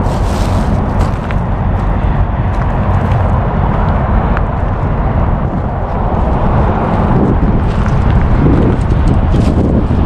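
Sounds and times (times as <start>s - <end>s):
footsteps on gravel: 0.0s - 10.0s
highway traffic rumble: 0.0s - 10.0s
wind on microphone: 0.0s - 10.0s.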